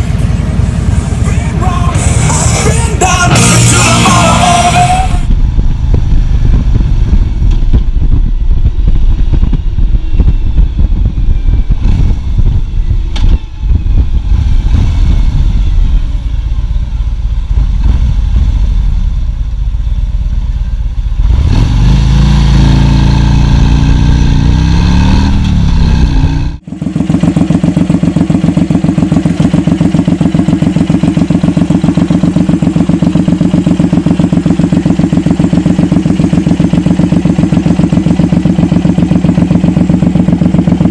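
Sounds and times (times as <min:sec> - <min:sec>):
motorcycle engine revving and idling: 0:00.0 - 0:40.9.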